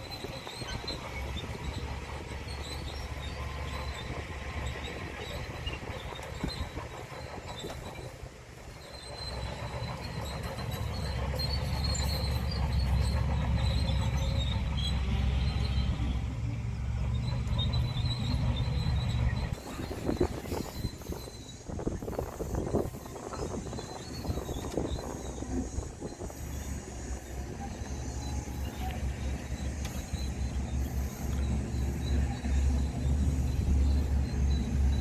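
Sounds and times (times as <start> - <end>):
thin high squeal: 0.0 - 16.3, 17.1 - 35.0
bulldozer diesel engine: 0.0 - 35.0.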